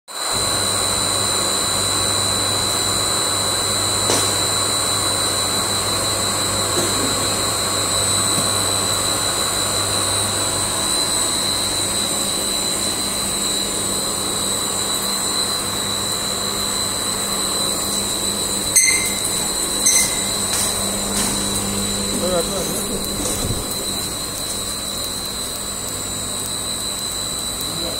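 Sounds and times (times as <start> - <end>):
high machine whine: 0.1 - 27.9
extrusion machine droning: 0.3 - 27.9
low machine hum: 0.3 - 27.9.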